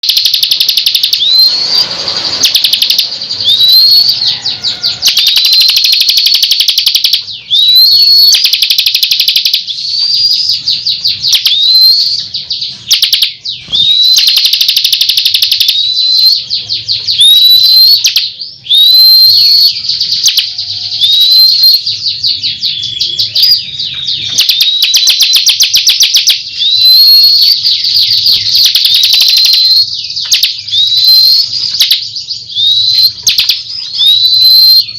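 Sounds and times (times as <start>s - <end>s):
bird singing high trills: 0.0s - 34.9s.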